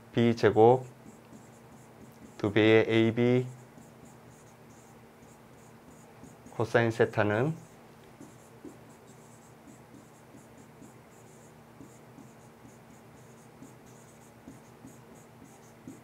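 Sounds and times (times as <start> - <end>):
stylus scratching on tablet: 0.5 - 16.0.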